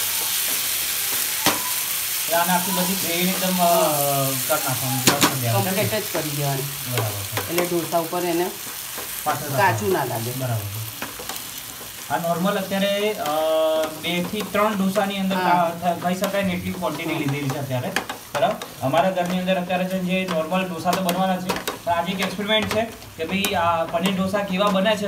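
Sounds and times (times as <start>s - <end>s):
vegetables sizzling in a frying pan: 0.0s - 25.0s.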